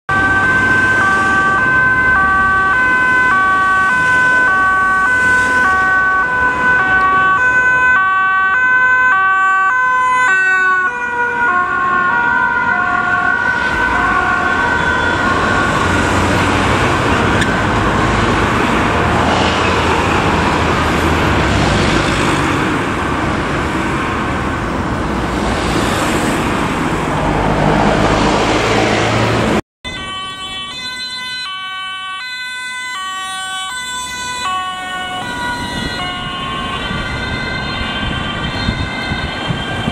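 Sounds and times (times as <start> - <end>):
two-tone police siren: 0.1 - 23.0, 29.8 - 39.9
engines and road traffic: 0.1 - 39.9.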